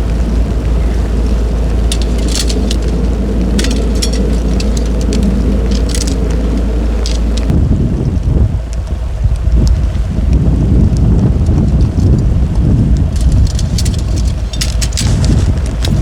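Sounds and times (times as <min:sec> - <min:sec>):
gusty wind buffeting microphone: 0:00.0 - 0:16.0
small ticks: 0:01.3 - 0:07.5, 0:08.7 - 0:16.0.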